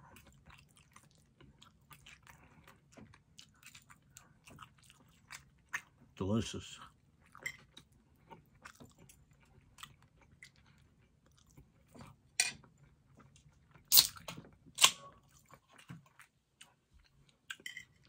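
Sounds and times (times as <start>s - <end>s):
person chewing: 0.0s - 6.1s, 7.2s - 18.0s.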